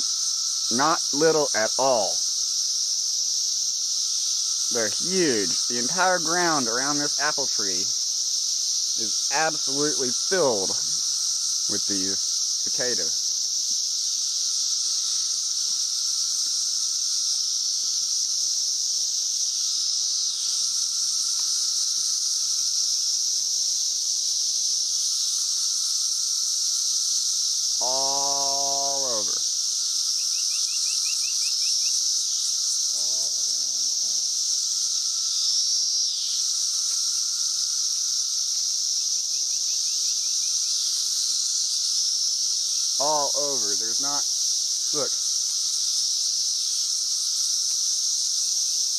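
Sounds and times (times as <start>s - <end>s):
cicadas droning: 0.0s - 48.9s.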